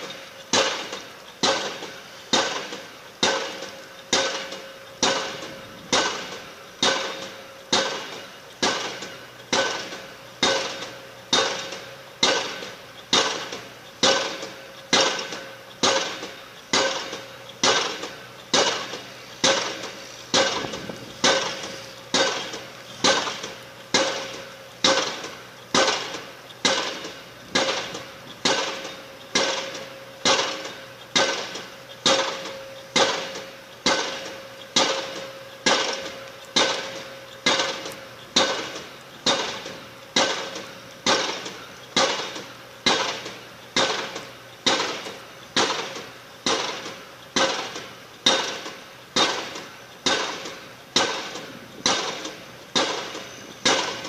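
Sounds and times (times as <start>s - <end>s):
pile hammer blows ringing: 0.0s - 54.0s.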